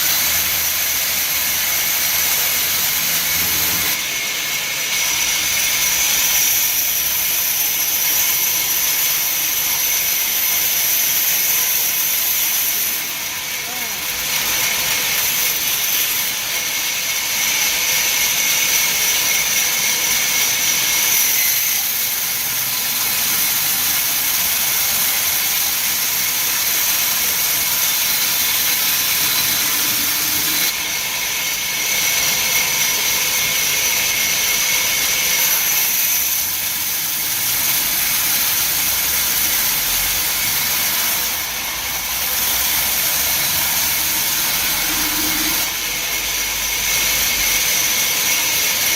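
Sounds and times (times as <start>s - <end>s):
wood-cutting machine whine and hiss: 0.0s - 48.9s.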